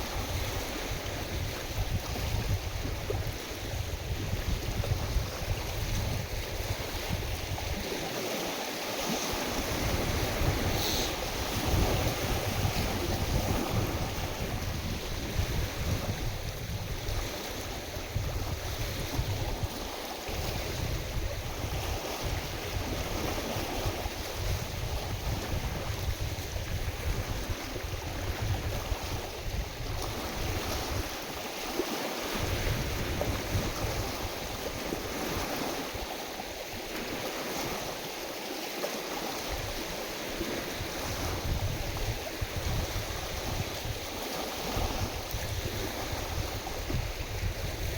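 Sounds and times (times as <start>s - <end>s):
wind rumbling on microphone: 0.0s - 38.4s, 39.2s - 47.9s
lake waves splashing: 0.0s - 47.9s.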